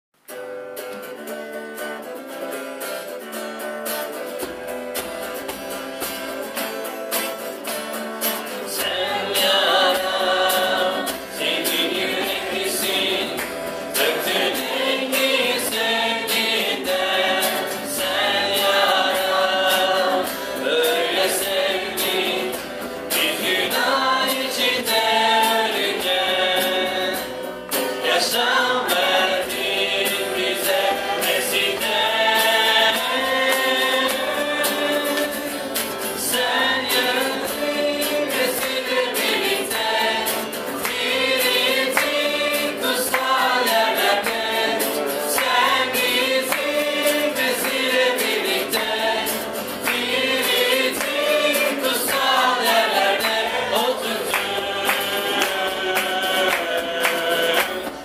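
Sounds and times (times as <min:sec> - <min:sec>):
strummed acoustic guitar: 0:00.2 - 0:58.0
men and women singing: 0:08.5 - 0:58.0.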